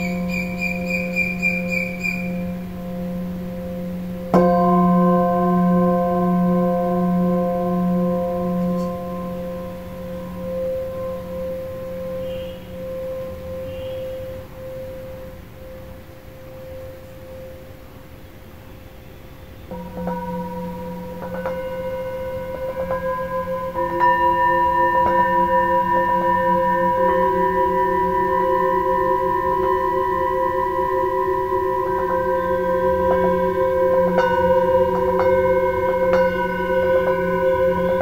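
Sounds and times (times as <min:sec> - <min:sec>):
singing bowls struck with a mallet: 0:00.0 - 0:15.8, 0:19.7 - 0:38.0
singing bowl ringing: 0:00.0 - 0:18.8, 0:19.6 - 0:38.0.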